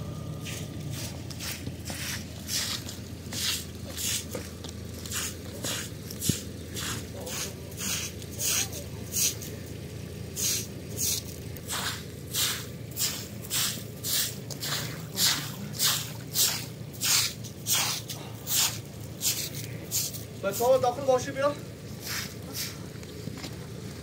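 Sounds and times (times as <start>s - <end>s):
broom sweeping wet slush: 0.4s - 9.7s, 10.3s - 22.9s.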